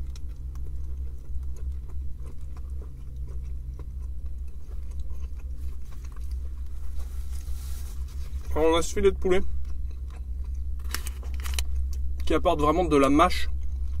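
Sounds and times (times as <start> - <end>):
person chewing food: 0.0 - 12.2
steady low rumble: 0.0 - 14.0.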